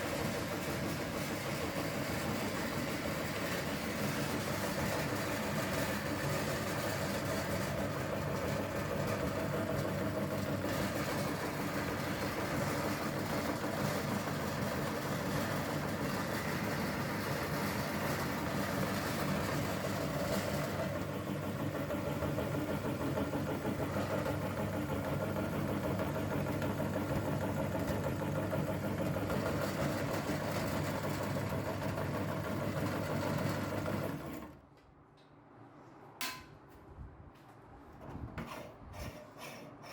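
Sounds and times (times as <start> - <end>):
electric meat grinder motor hum: 0.0 - 34.5.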